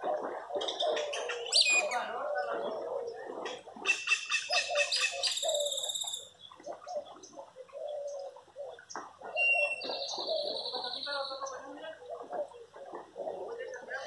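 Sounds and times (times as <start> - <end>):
birds chirping: 0.6 - 14.0.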